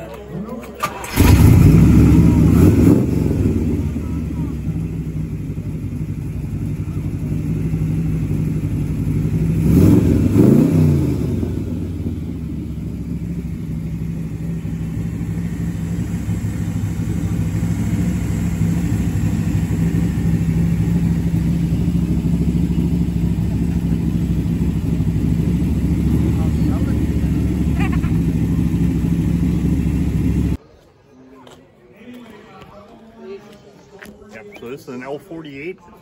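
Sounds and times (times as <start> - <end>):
car engine idling: 0.0 - 30.6
engine revving: 0.8 - 6.7, 7.3 - 30.6.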